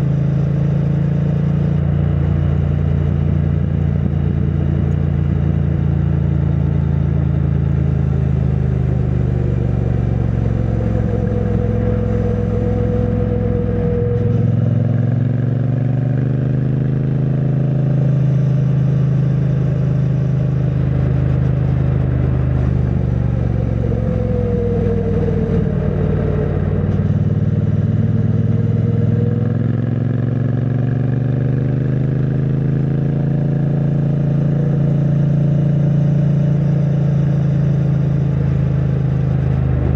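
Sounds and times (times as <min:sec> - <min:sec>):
muffled motorcycle engine riding: 0:00.0 - 0:39.9.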